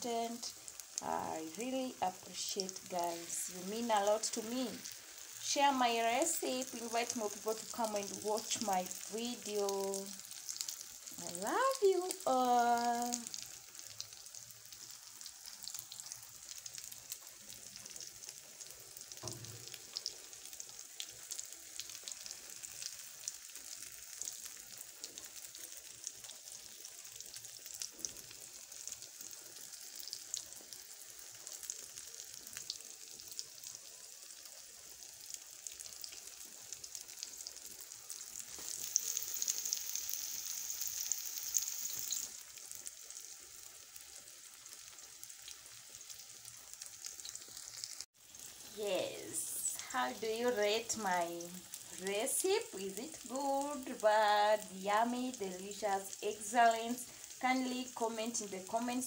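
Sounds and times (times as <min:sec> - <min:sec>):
eggs sizzling in oil: 0:00.0 - 0:59.0.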